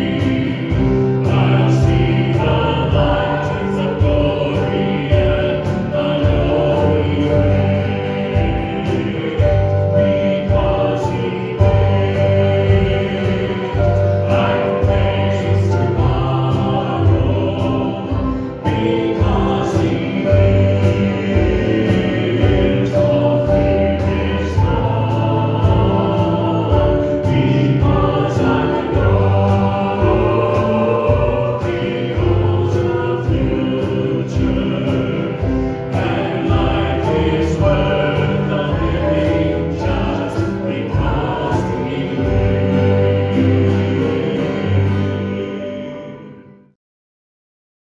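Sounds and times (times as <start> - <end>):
gospel choir singing over beat: 0.0 - 46.4.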